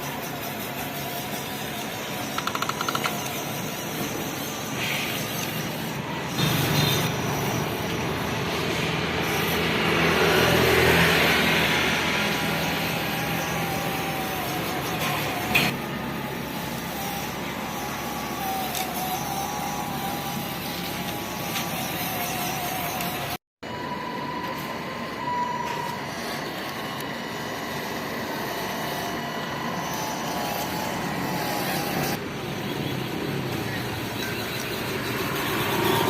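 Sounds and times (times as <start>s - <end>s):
small electric motor whining: 0.0s - 36.0s.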